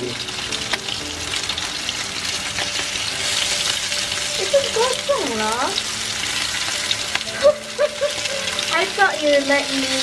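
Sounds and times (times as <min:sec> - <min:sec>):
meat sizzling in frying pan: 0:00.0 - 0:10.0.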